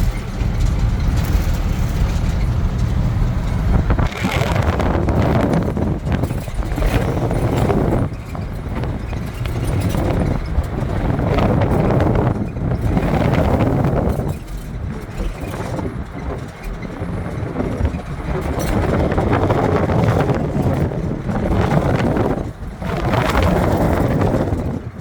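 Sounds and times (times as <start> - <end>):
vehicle running: 0.0 - 25.0
wind noise on microphone: 0.0 - 25.0.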